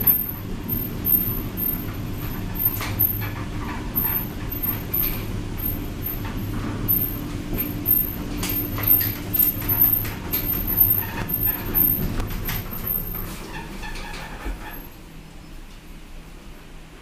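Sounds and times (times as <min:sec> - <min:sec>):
elevator car humming: 0:00.0 - 0:17.0.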